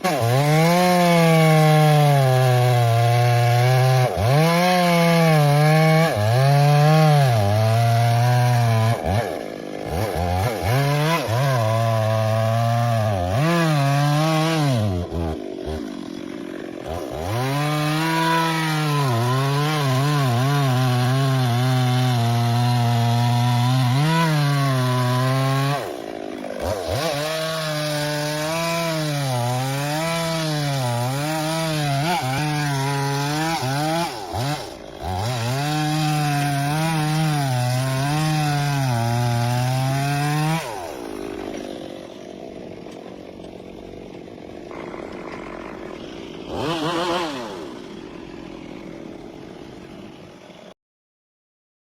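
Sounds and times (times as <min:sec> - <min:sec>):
chainsaw cutting wood: 0:00.0 - 0:50.8.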